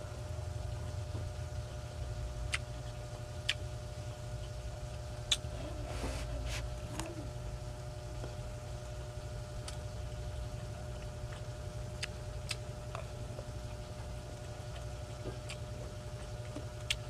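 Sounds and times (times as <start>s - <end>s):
steady low hum: 0.0s - 17.0s
chewing food: 2.4s - 7.4s, 8.0s - 17.0s.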